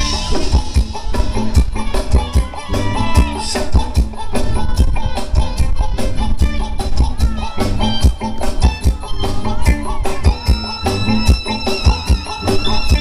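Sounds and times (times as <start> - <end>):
high held melody line: 0.0 - 13.0
live band dance music: 0.0 - 13.0
quick drum beat: 0.0 - 13.0.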